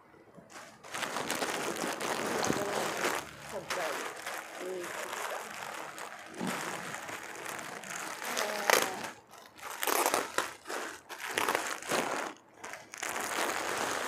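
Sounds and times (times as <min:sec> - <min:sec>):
plastic bag crinkling: 0:00.5 - 0:14.0.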